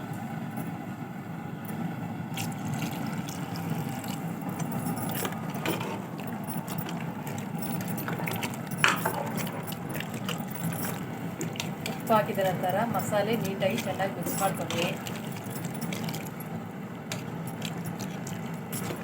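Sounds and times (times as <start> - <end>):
spoon clinking and scraping pot: 2.8 - 19.0.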